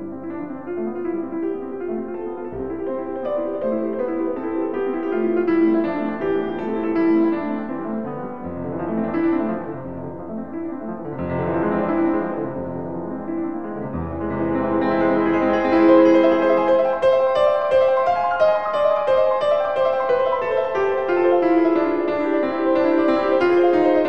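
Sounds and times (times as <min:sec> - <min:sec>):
piano playing held chords: 0:00.0 - 0:24.0.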